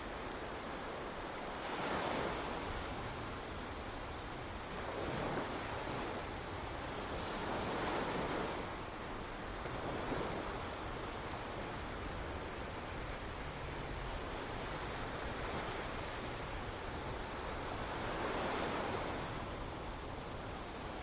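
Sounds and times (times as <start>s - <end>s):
ocean surf washing ashore: 0.0s - 21.0s.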